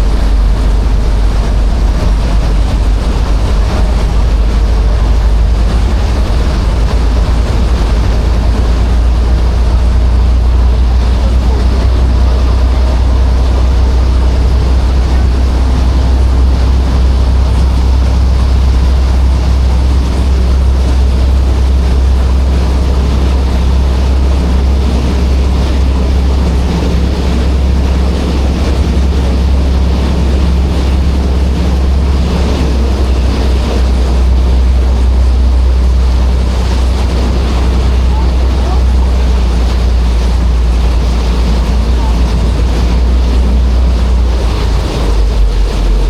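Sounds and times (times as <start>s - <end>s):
ferry engine hum: 0.0s - 46.0s
sea noise: 0.0s - 46.0s
wind: 0.0s - 46.0s.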